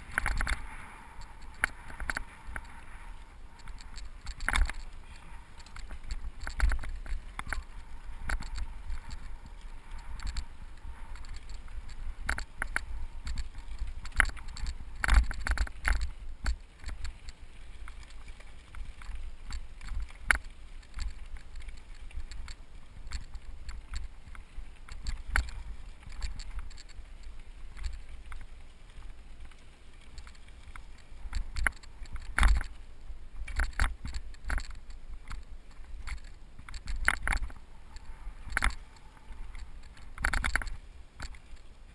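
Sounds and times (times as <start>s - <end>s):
bike rattling over dirt: 0.0s - 41.9s
wind rumble on microphone: 0.0s - 41.9s.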